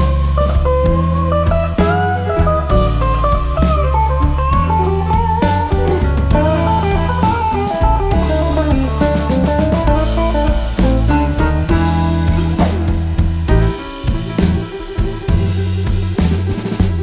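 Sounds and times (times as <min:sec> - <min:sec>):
electric guitar lead with bends: 0:00.0 - 0:16.8
bass and drums: 0:00.0 - 0:17.0.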